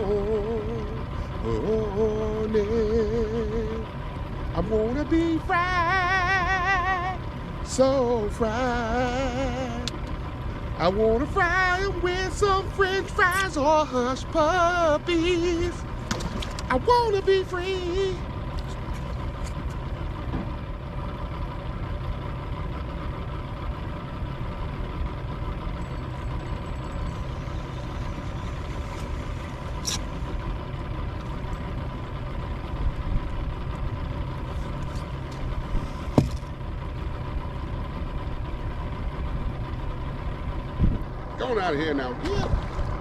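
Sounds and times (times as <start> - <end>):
boat motor idling: 0.0 - 43.0.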